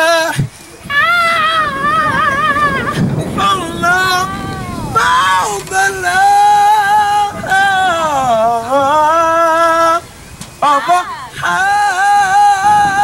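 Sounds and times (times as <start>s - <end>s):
man singing high held notes: 0.0s - 13.0s.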